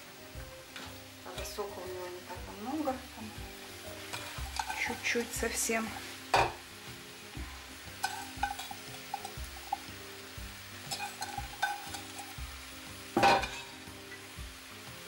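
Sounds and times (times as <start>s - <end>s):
soft background music: 0.0s - 15.0s
vegetables sizzling in oil: 0.0s - 15.0s.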